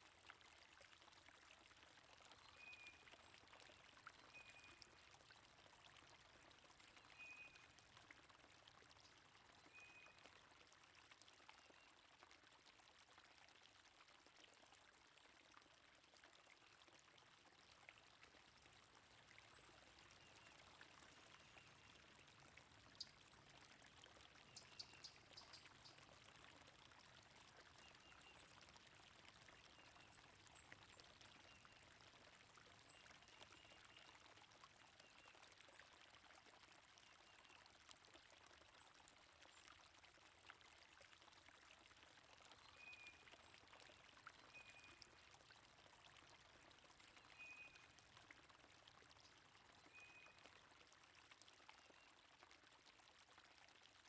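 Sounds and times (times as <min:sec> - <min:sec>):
stream water flowing: 0:00.1 - 0:54.0.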